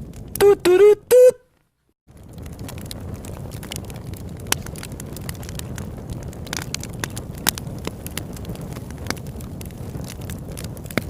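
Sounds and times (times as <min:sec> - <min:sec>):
campfire crackling and popping: 0:00.0 - 0:00.9, 0:01.5 - 0:11.0.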